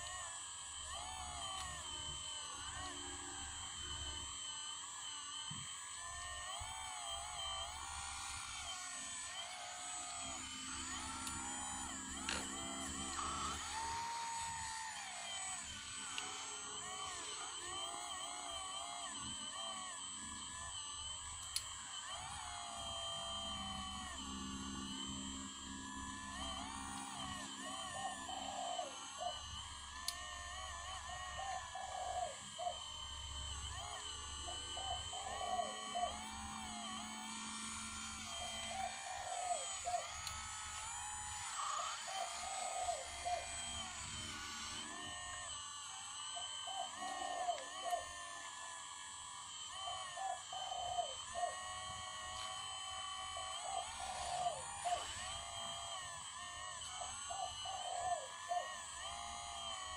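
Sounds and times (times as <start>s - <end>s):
hydraulic pump whining: 0.0s - 59.9s.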